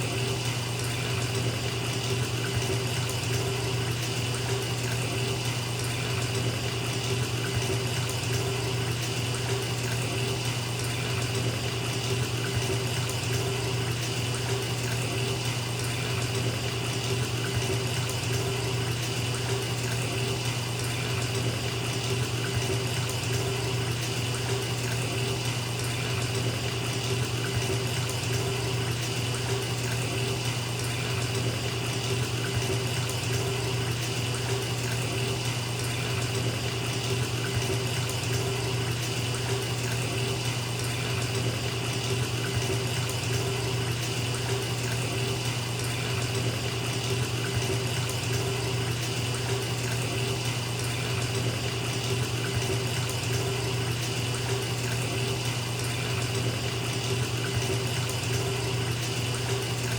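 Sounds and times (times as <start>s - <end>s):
water pouring into bathtub: 0.0s - 59.9s.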